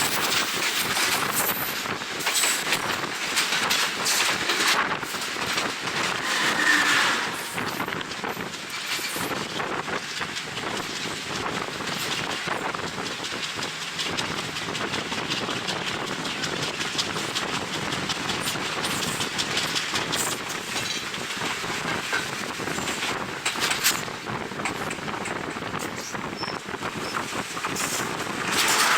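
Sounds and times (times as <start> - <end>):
train wheels clattering on rails: 0.0 - 28.9
wind rushing on microphone: 0.0 - 28.9.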